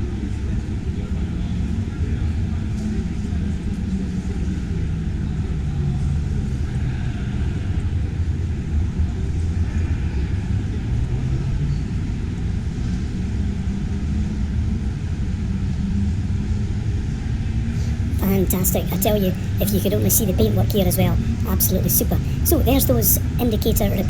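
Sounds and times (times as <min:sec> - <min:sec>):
low rumbling hall background noise: 0:00.0 - 0:24.0.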